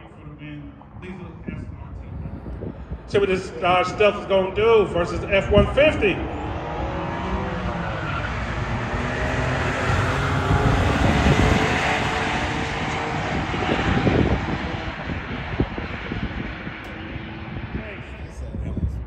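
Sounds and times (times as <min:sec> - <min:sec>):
racing engines at full throttle: 0:00.0 - 0:19.0.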